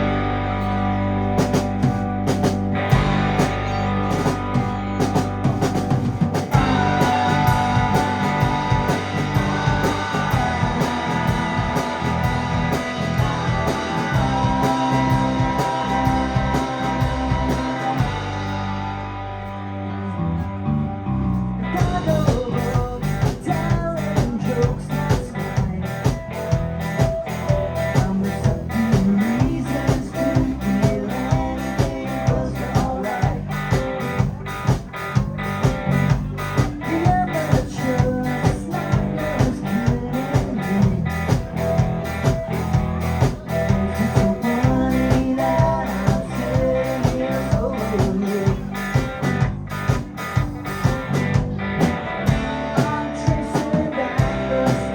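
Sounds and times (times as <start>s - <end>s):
bass guitar: 0.0s - 54.9s
electric guitar: 0.0s - 54.9s
keyboards: 0.0s - 54.9s
drum kit beat: 1.4s - 18.9s, 21.8s - 54.9s.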